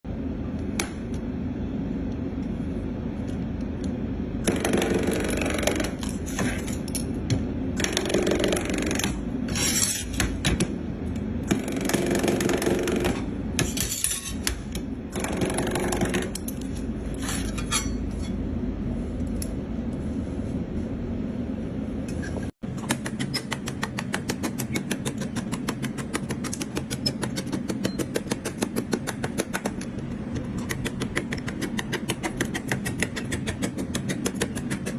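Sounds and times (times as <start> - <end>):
low workshop hum: 0.0 - 34.9.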